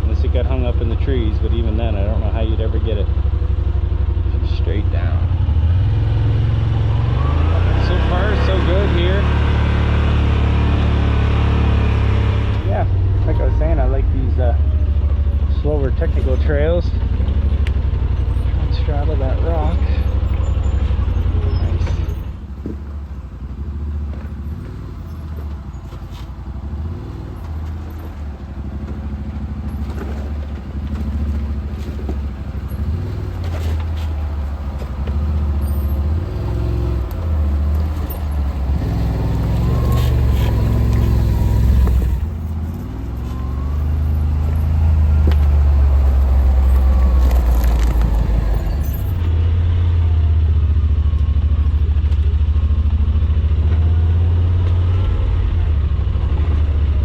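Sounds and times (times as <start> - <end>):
utility vehicle engine droning: 0.0 - 57.0.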